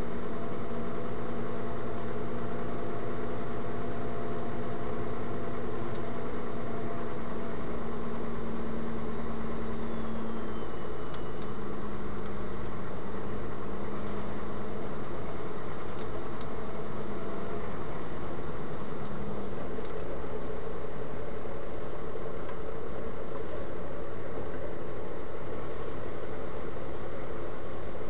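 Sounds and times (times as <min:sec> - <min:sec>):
low hum: 0:00.0 - 0:28.0
vehicle engine and road noise: 0:00.0 - 0:28.0.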